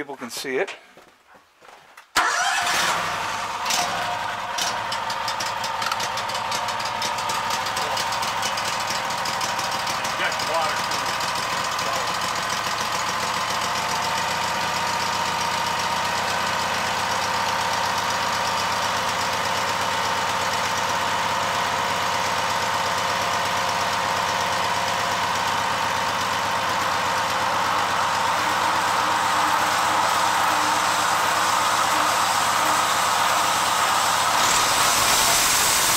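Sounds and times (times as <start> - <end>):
sawmill engine running: 2.2 - 35.9.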